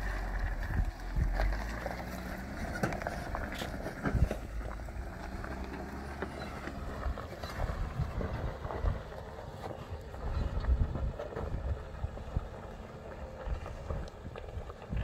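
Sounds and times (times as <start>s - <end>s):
wind buffeting microphone: 0.0s - 1.9s, 2.6s - 15.0s
engine running under load: 0.0s - 15.0s
tyres crunching on rocks: 0.0s - 15.0s.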